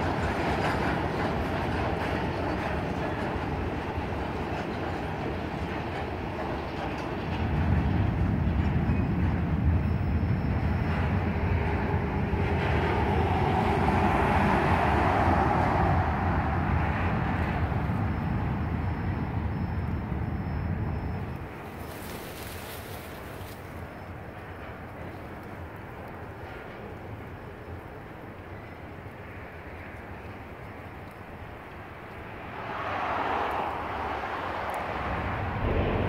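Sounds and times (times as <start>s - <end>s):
freight train rumble: 0.0s - 36.0s.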